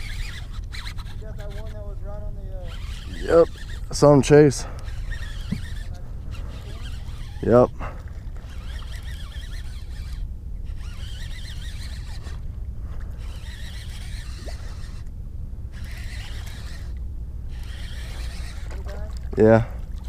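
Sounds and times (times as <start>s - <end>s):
fishing reel squeaking: 0.0s - 12.5s, 13.1s - 15.1s, 15.7s - 20.0s.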